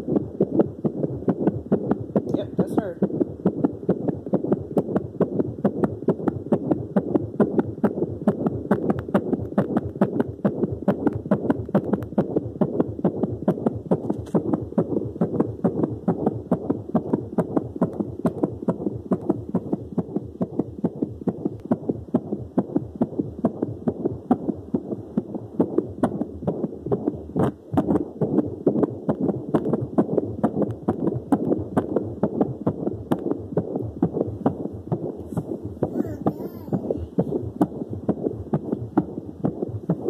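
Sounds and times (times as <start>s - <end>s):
fetal heartbeat whooshing: 0.0s - 40.0s.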